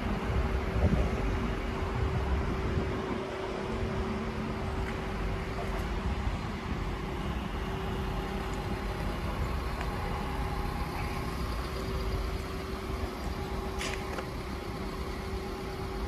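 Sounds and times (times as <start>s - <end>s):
van diesel engine idling: 0.0s - 16.0s.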